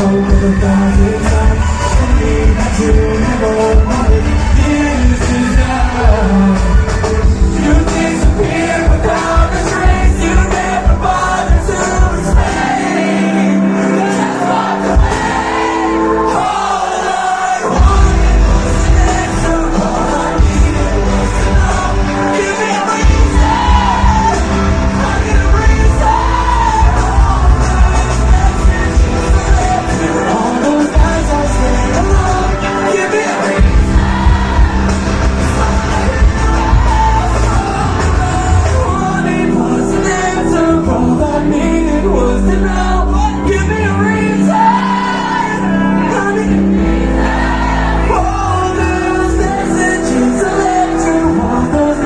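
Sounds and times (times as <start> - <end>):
metalcore band playing live: 0.0 - 52.0
person singing: 0.0 - 52.0
sung and shouted vocals: 0.0 - 52.0.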